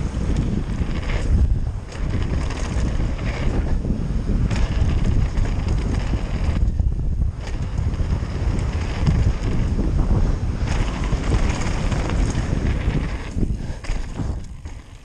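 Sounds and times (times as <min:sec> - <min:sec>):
mountain bike rumble and rattle: 0:00.0 - 0:15.0
wind buffeting microphone: 0:00.0 - 0:15.0.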